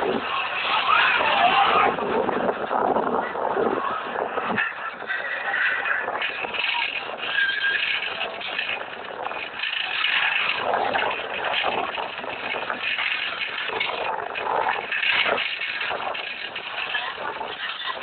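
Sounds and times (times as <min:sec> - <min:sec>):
train rattling and clattering: 0:01.5 - 0:18.0.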